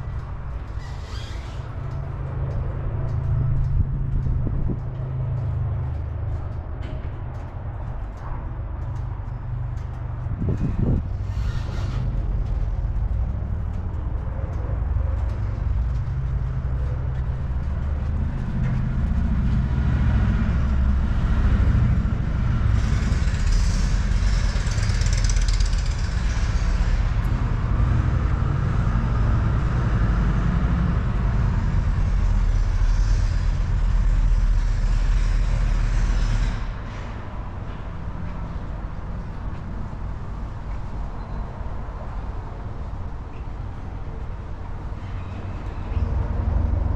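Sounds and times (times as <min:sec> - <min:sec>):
traffic rumble: 0:00.0 - 0:46.9.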